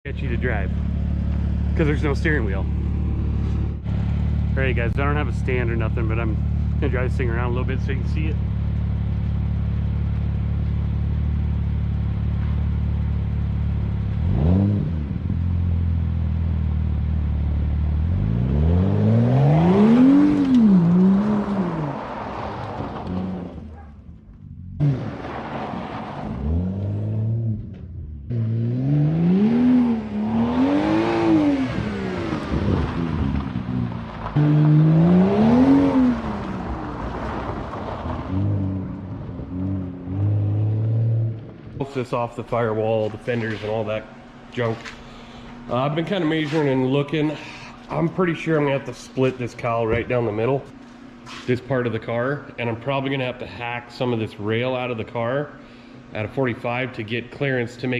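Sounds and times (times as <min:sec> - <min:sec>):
car engine idling and revving: 0:00.0 - 0:57.6.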